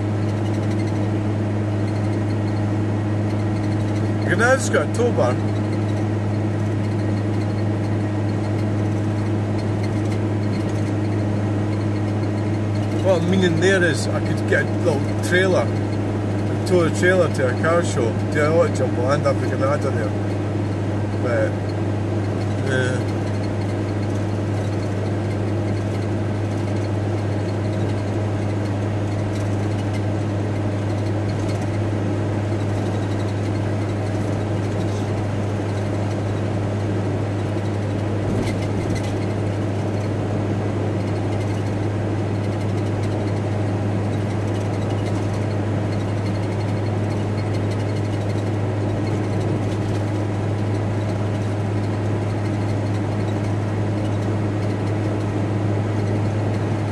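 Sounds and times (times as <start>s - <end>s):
van engine and road noise: 0.0s - 56.9s.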